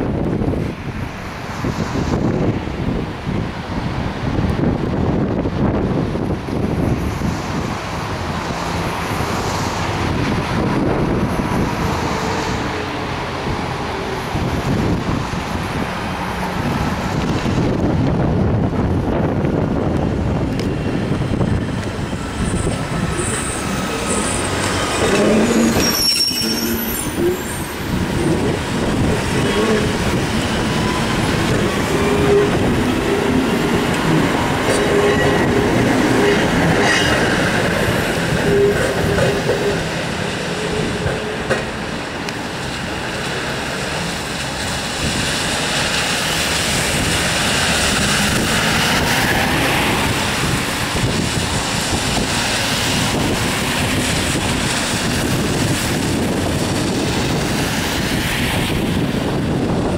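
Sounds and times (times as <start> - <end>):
electric train motors and wheels: 0.1 - 59.9.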